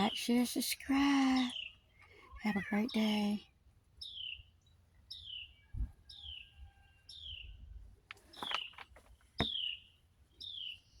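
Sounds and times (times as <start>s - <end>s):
sparrow chirping: 0.0s - 3.4s, 4.0s - 7.7s, 9.4s - 11.0s.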